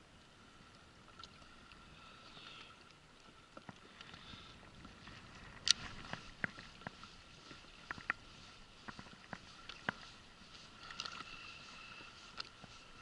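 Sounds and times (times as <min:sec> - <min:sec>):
faint sea and wind noise: 0:00.0 - 0:13.0.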